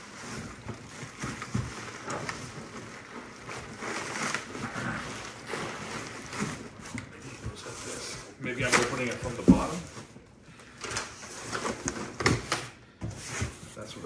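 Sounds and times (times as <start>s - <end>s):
plastic film crinkling: 0.0s - 12.8s.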